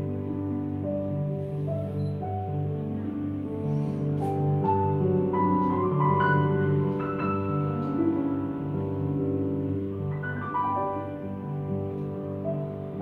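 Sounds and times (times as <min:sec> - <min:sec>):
grand piano slow piece: 0:00.0 - 0:13.0.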